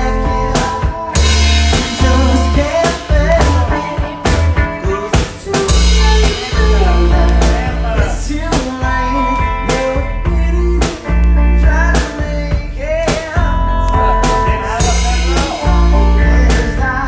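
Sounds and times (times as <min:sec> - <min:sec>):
bass drum and snare beat: 0:00.0 - 0:17.0
electric guitar playing: 0:00.0 - 0:17.0
man singing: 0:00.0 - 0:17.0.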